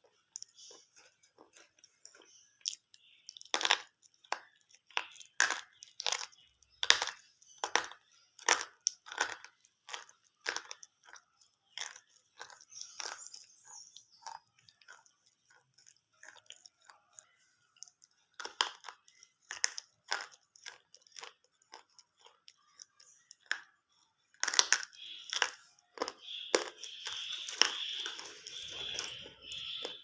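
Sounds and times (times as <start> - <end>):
chewing crunches: 0.0 - 30.0.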